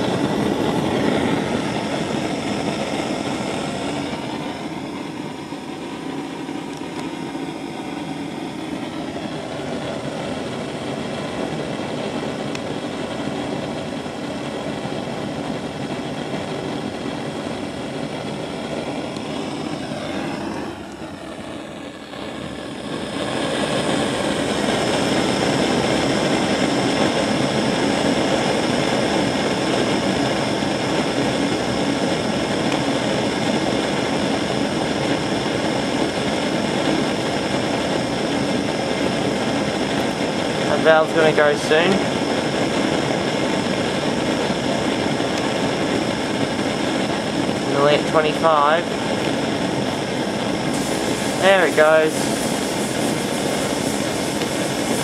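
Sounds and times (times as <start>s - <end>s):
blowtorch flame rushing: 0.0s - 55.0s.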